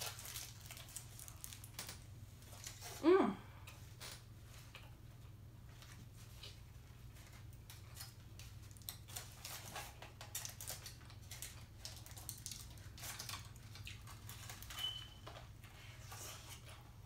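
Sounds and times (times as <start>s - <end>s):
foil wrapper crinkling: 0.0s - 3.0s, 5.8s - 16.8s
low steady hum: 0.0s - 17.0s.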